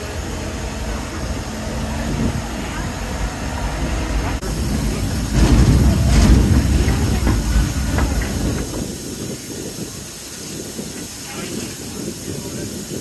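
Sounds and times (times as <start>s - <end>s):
tram rumbling: 0.0s - 13.0s.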